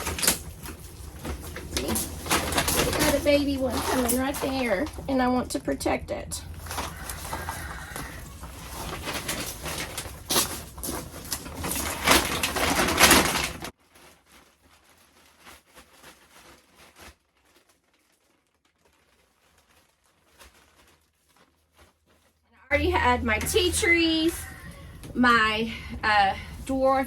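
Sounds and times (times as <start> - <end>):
feed bag rustling and crinkling: 0.0 - 27.0.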